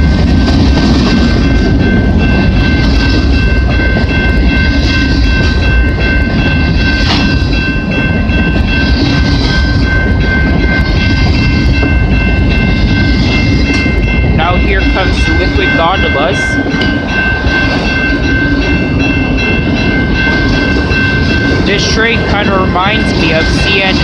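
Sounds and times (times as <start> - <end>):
train freight cars rumbling: 0.0 - 24.0.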